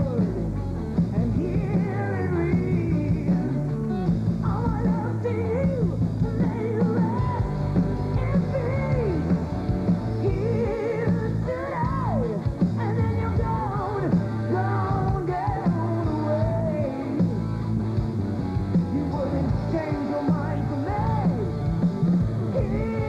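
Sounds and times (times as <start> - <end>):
person singing with vibrato: 0.0 - 3.6, 4.4 - 17.5, 18.9 - 21.8, 22.4 - 23.0
hard rock band playing: 0.0 - 23.0.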